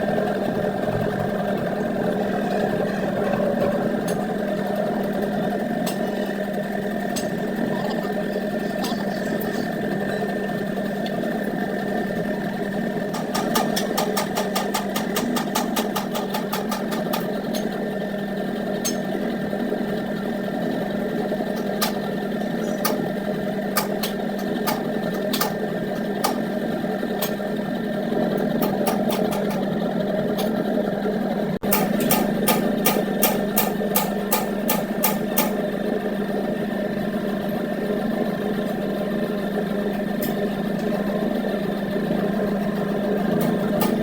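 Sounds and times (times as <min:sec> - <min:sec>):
small machine motor humming: 0:00.0 - 0:44.0.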